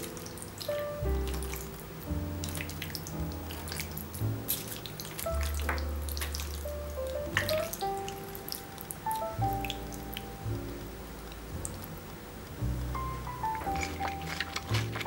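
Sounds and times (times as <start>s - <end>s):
wet squelching of stirring: 0.0s - 10.3s, 13.0s - 15.0s
light background music: 0.0s - 15.0s.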